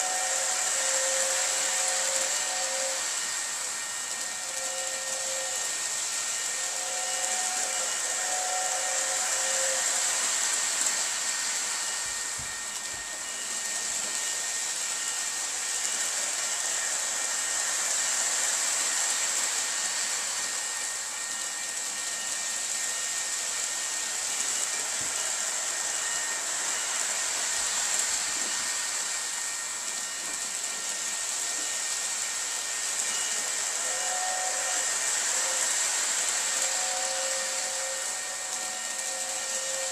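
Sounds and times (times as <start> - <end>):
model train whirring on track: 0.0 - 39.9.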